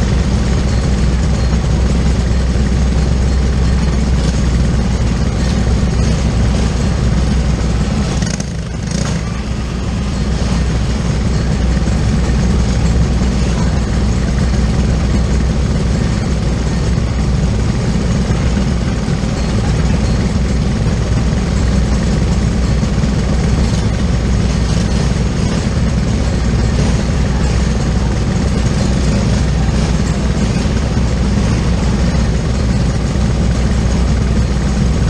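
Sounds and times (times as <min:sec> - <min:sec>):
kart engines idling: 0:00.0 - 0:35.0.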